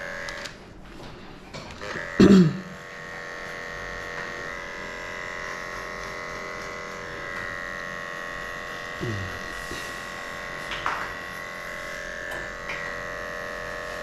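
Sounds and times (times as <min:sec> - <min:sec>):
dog clipper humming: 0:00.0 - 0:14.0.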